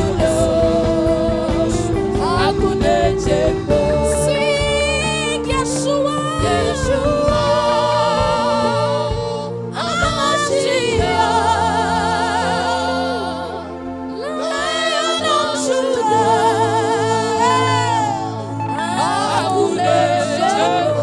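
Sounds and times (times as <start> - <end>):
choir singing with vibrato: 0.0 - 21.0
sustained accompaniment: 0.0 - 21.0.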